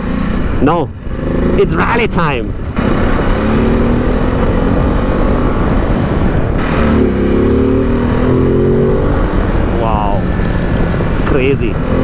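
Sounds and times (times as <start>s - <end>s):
motorcycle engine accelerating: 0.0s - 12.0s
wind noise: 0.0s - 12.0s.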